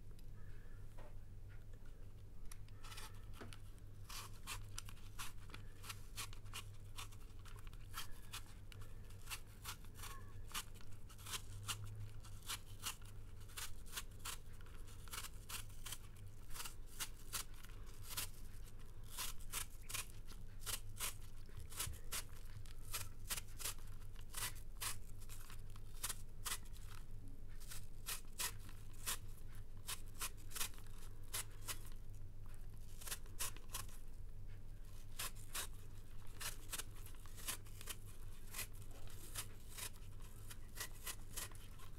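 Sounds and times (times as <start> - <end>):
low room hum: 0.0 - 41.9
peeler scraping apple skin: 2.7 - 34.1, 34.9 - 41.9.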